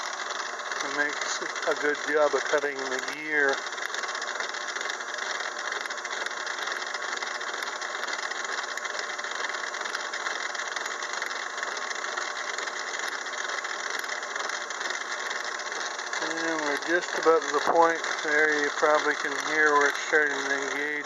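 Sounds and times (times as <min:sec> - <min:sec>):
lathe cutter machining metal: 0:00.0 - 0:21.0.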